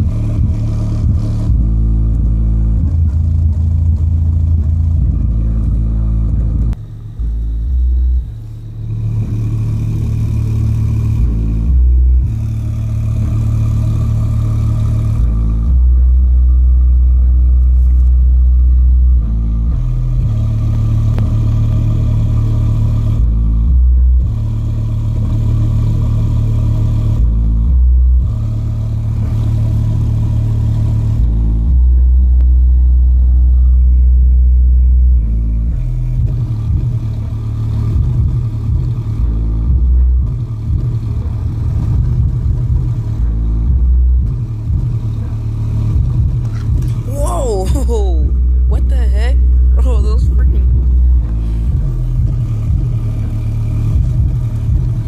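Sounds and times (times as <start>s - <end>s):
bass-boosted music: 0.0s - 55.0s.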